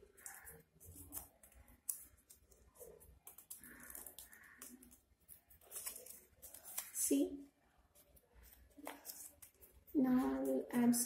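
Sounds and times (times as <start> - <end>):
paper being folded and creased: 0.0 - 7.1, 7.9 - 10.6.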